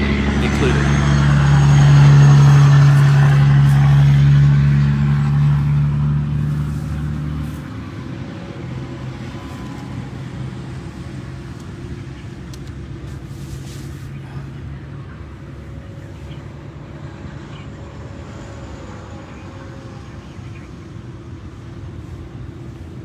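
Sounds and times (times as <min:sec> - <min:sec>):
highway traffic noise: 0:00.0 - 0:23.0
large vehicle engine running: 0:00.0 - 0:23.0.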